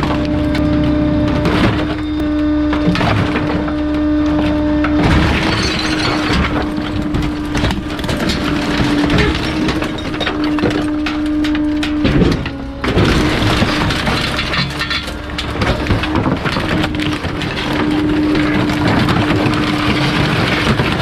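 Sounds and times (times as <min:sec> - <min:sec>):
garbage truck compactor crushing: 0:00.0 - 0:21.0
hydraulics humming: 0:00.0 - 0:21.0.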